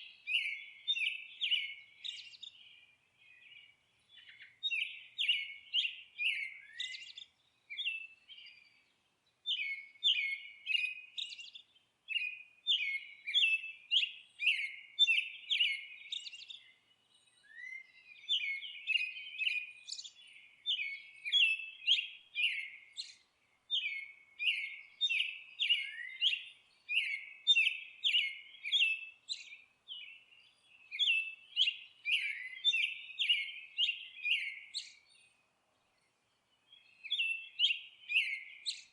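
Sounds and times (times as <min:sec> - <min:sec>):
songbird chirping: 0:00.0 - 0:38.9.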